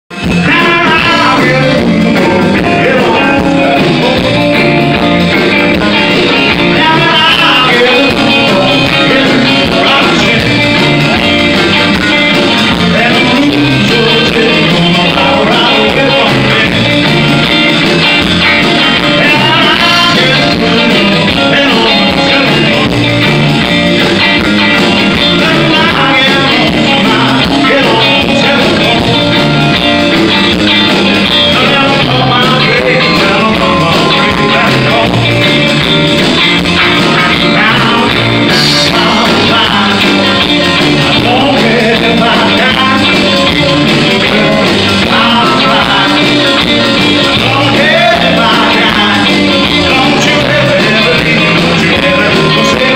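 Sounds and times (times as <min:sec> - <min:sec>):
bass guitar: 0:00.0 - 0:52.9
electric guitars: 0:00.1 - 0:52.9.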